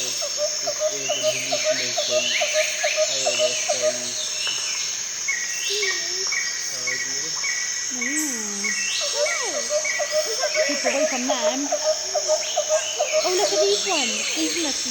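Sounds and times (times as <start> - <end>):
even chirping: 0.0 - 14.9
insects chirring: 0.0 - 14.9
rapid chirping calls: 0.0 - 14.9
swooping whistled calls: 0.0 - 14.9.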